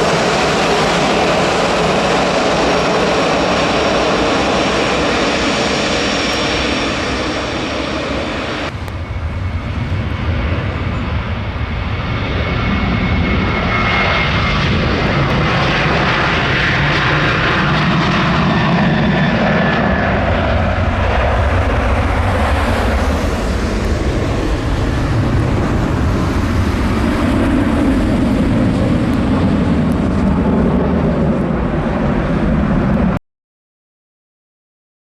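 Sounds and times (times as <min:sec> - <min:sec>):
jet engines running: 0:00.0 - 0:33.2.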